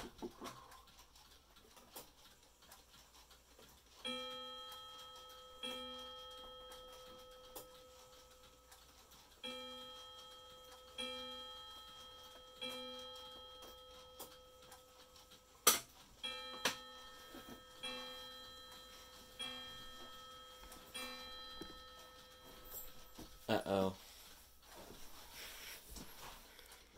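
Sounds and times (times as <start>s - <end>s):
clock striking: 0.0s - 25.3s
clock ticking faintly: 0.0s - 26.9s.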